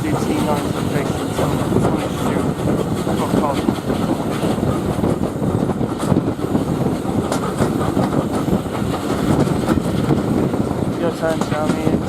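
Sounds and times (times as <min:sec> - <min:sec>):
rail joint clicks: 0:00.0 - 0:12.0
train wheels rumbling on rails: 0:00.0 - 0:12.0.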